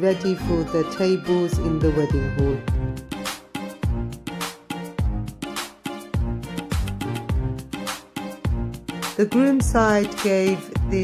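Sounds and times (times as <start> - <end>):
background music with deep bass beat: 1.6 - 11.0.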